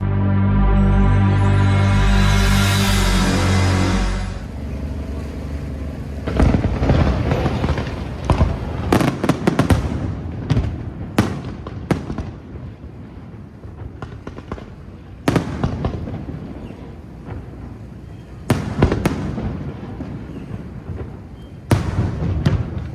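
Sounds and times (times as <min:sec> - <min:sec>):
continuous rumble: 0:00.0 - 0:22.9
fireworks bangs: 0:03.4 - 0:22.9.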